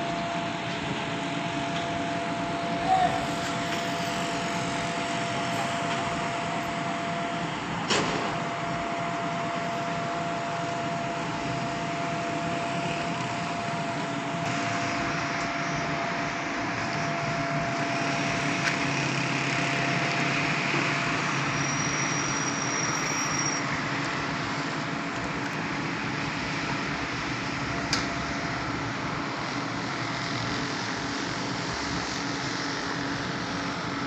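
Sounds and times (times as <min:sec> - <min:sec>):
pump truck engine humming: 0:00.0 - 0:34.0.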